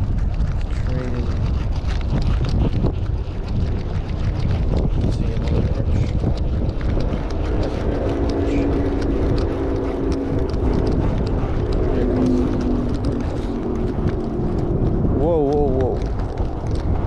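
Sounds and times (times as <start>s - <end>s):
distant engine hum: 0.0s - 17.0s
wind buffeting microphone: 0.0s - 17.0s.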